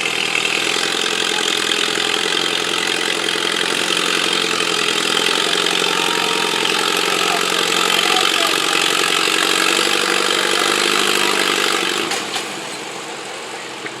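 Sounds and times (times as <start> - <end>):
tractor engine at high revs: 0.0 - 14.0.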